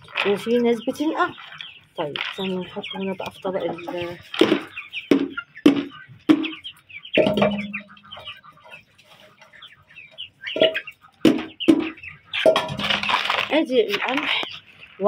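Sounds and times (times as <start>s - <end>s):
chicks clucking and peeping: 0.0s - 15.0s
sharp chicken clucks: 0.0s - 15.0s.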